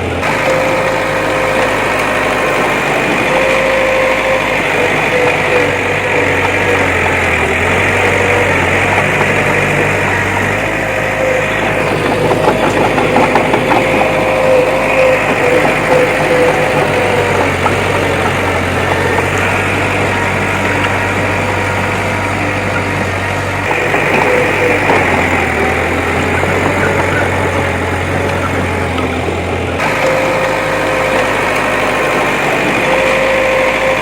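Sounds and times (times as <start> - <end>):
bulldozer diesel engine running: 0.0 - 34.0
fast rattle: 0.0 - 34.0.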